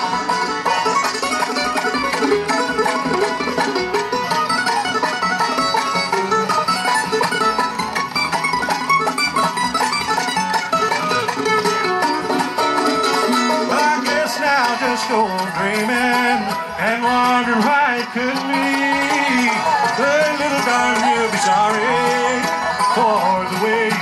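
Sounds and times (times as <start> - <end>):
acoustic guitar: 0.0 - 24.0
dobro: 0.0 - 24.0
fiddle: 0.0 - 24.0
mandolin: 0.0 - 24.0
upright bass: 0.0 - 24.0.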